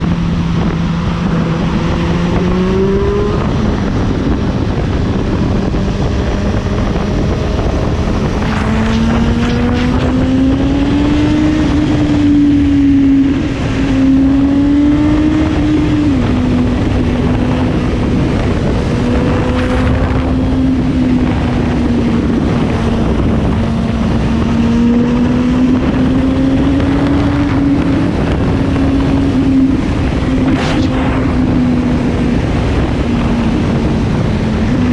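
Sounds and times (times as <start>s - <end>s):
motorcycle engine accelerating: 0.0s - 34.9s
wind on microphone: 0.0s - 34.9s.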